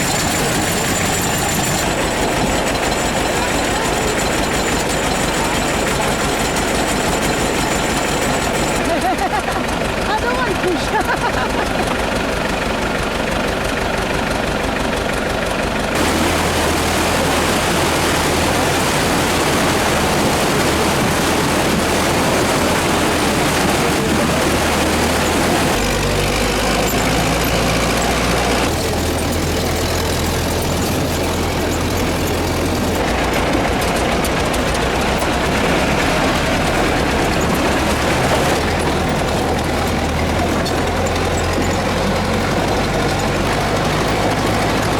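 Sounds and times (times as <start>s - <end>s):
vehicle engine rumbling: 0.0s - 44.9s.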